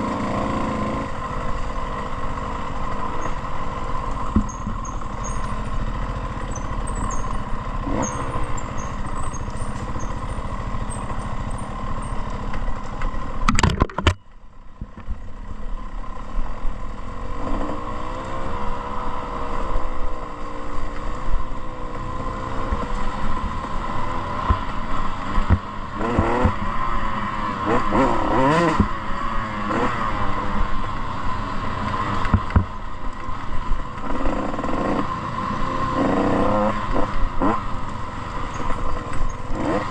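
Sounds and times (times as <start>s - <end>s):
dirt bike engine revving: 0.0s - 13.7s, 17.0s - 20.7s, 21.6s - 32.8s, 33.6s - 39.9s.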